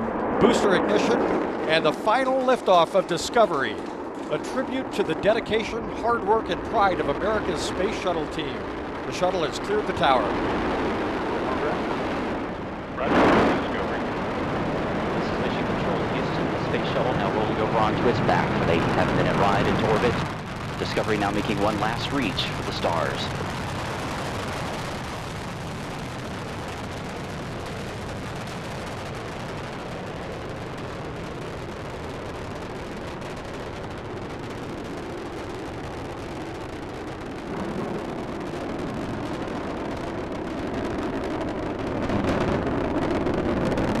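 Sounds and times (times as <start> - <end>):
rocket engines rumbling: 0.0 - 44.0.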